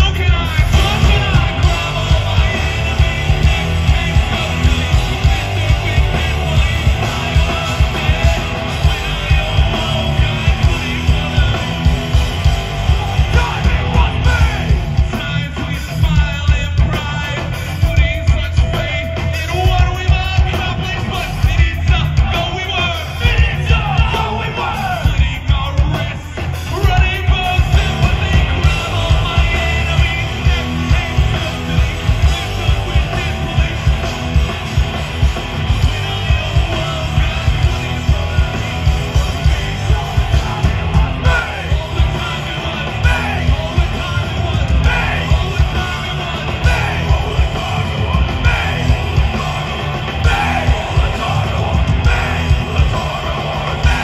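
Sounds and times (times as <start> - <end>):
distorted electric guitar: 0.0 - 54.0
driving drum beat: 0.0 - 54.0.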